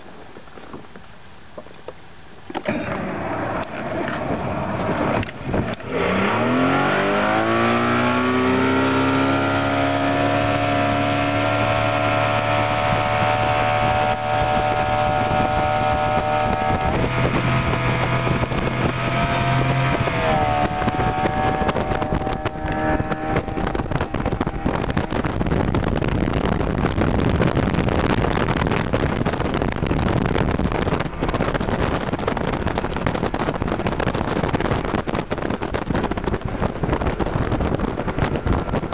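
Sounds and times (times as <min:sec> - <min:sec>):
wind on microphone: 0:00.0 - 0:38.9
outboard motor accelerating: 0:02.4 - 0:38.9.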